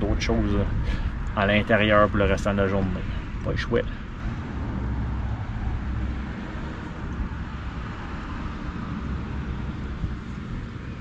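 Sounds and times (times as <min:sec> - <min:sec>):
outdoor background rumble and hiss: 0:00.0 - 0:11.0.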